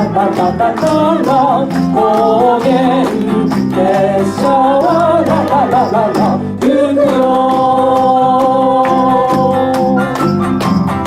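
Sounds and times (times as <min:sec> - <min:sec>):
chorus singing pop song: 0:00.0 - 0:10.4
acoustic guitar: 0:00.0 - 0:11.0
bass: 0:00.0 - 0:11.0
cajon drumming: 0:00.0 - 0:11.0.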